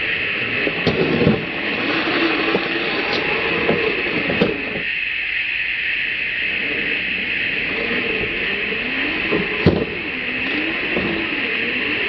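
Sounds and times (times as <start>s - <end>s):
electric motor whining: 0.0s - 12.0s
steady high hiss: 0.0s - 12.0s.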